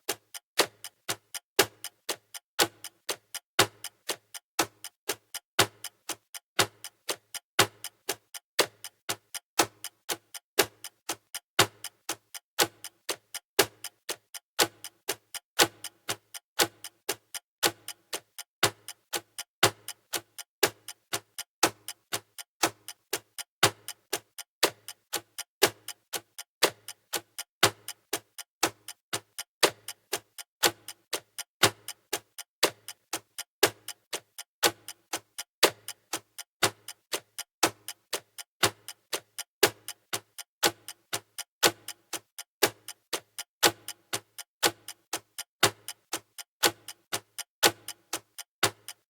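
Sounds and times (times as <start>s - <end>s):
countdown timer ticking: 0.1s - 49.0s.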